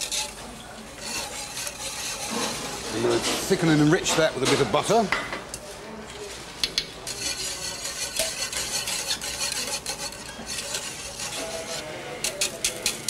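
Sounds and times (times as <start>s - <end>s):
whisk scraping a metal pan: 0.0s - 5.1s, 6.8s - 13.0s.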